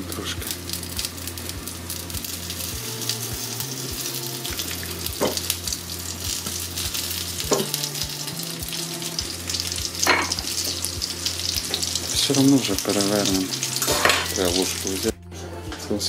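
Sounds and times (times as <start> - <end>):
nuggets sizzling in frying pan: 0.0 - 15.2.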